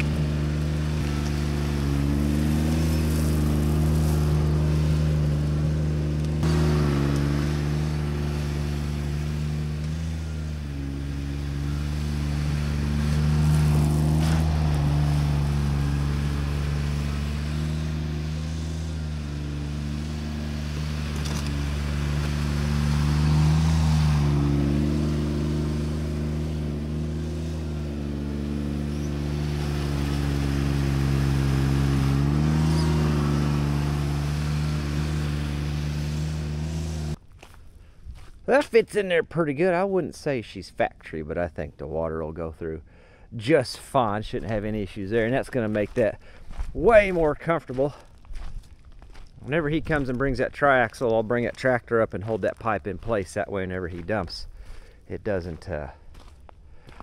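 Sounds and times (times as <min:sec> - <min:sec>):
tractor diesel engine running: 0:00.0 - 0:40.6, 0:43.8 - 0:57.0.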